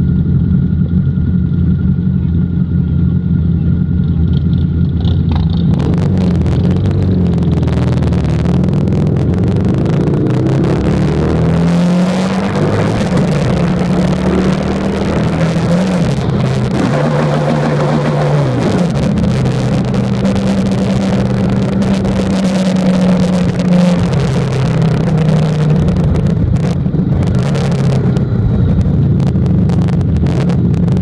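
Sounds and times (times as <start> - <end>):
motorcycle engine accelerating: 0.0 - 31.0
wind rush: 5.6 - 31.0.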